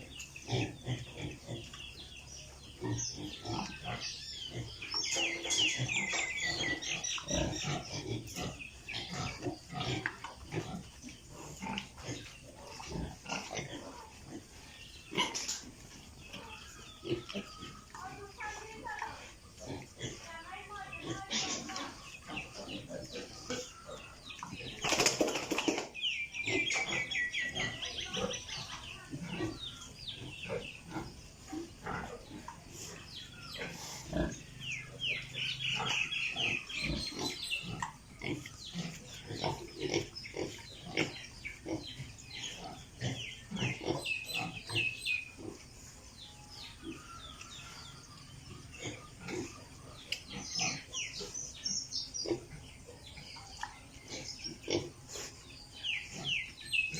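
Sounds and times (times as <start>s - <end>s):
piglets grunting and squealing: 0.0s - 25.0s, 26.3s - 46.0s, 46.6s - 56.9s.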